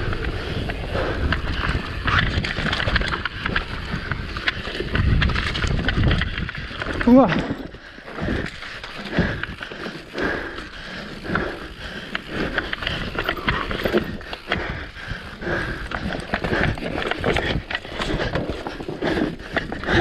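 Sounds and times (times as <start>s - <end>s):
mountain bike rattling: 0.0s - 20.0s
tyres on loose dirt: 0.0s - 20.0s.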